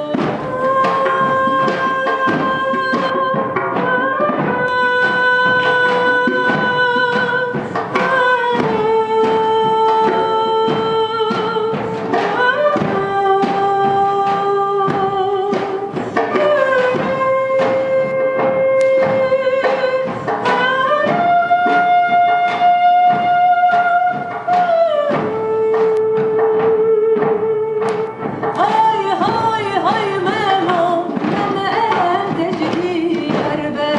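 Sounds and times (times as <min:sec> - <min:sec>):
steady drum beat: 0:00.0 - 0:33.9
woman singing long notes: 0:00.0 - 0:33.9.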